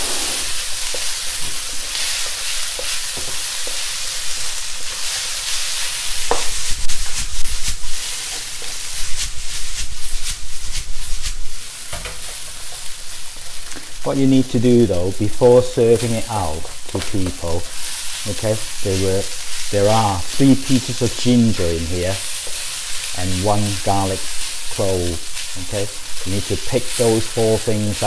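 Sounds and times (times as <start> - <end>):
spatula scraping and knocking wok: 0.0 - 14.0, 15.9 - 28.0
rice sizzling in a wok: 0.0 - 28.0.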